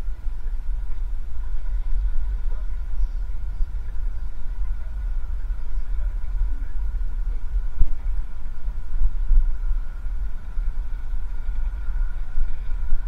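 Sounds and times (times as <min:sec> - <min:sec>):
bicycle ride vibration: 0:00.0 - 0:13.0
faint steady whine: 0:00.0 - 0:13.0
wind buffeting microphone: 0:00.0 - 0:13.0.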